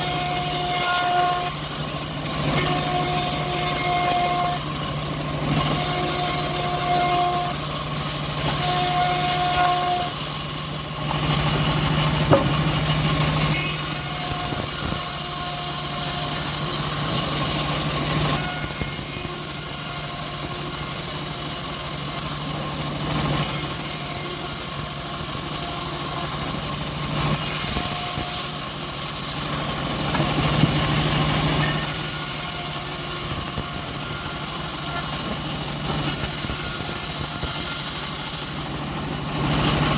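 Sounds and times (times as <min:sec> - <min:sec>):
bandsaw hissing through wood: 0:00.0 - 0:10.4, 0:11.0 - 0:39.9.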